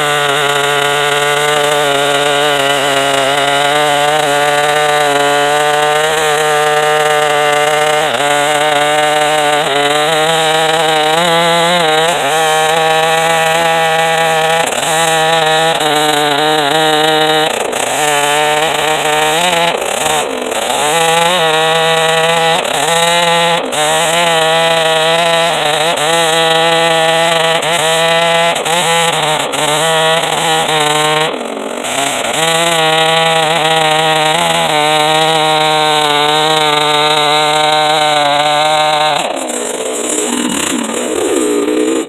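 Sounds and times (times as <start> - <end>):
chainsaw cutting log: 0.0 - 42.0.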